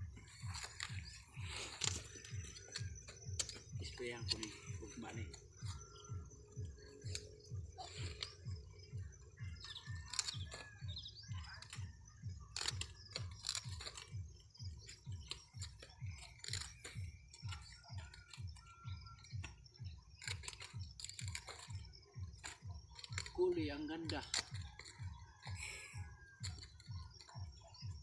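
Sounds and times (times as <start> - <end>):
cauliflower leaves crackling and snapping: 0.2 - 6.0, 7.8 - 8.4, 9.5 - 11.9, 12.5 - 28.0.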